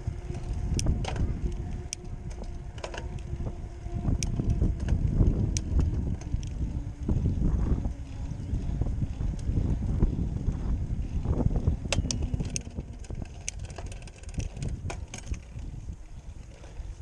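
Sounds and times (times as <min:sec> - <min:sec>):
bike clicks and rattles: 0:00.0 - 0:17.0
bike rolling on paved path: 0:00.0 - 0:17.0
wind buffeting microphone: 0:00.0 - 0:17.0.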